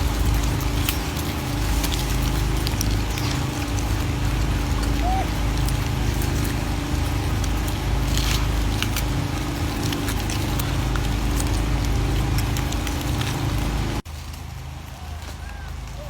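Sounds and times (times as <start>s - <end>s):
engine running steadily: 0.0s - 16.0s
small clicks and crackles: 0.0s - 16.0s.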